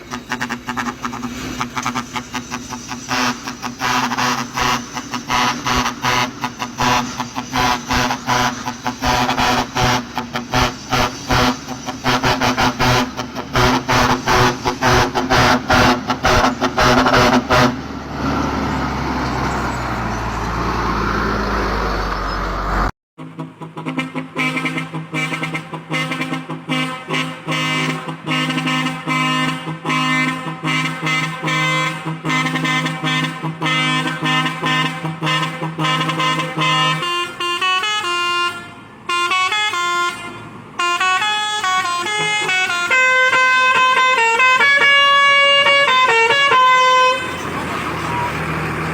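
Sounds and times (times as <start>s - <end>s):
vehicle air horn blasts: 0.0s - 17.8s, 23.2s - 47.4s
vehicle engine and air rush: 0.0s - 48.9s.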